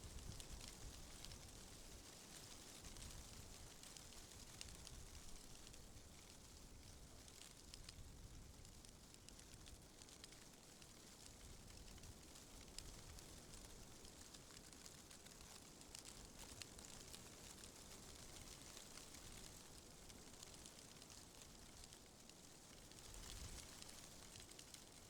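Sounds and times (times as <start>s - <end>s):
leaves rustling in wind: 0.0s - 25.0s.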